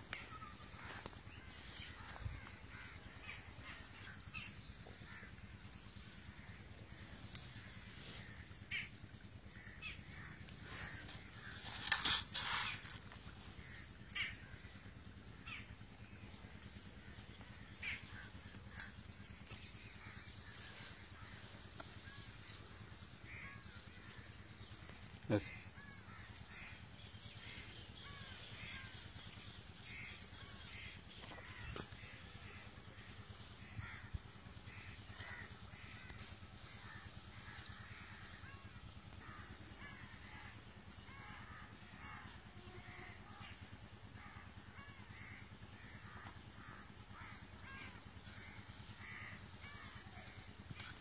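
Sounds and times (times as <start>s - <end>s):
faint birds calling: 0.0s - 51.0s
steady low hum: 0.0s - 51.0s.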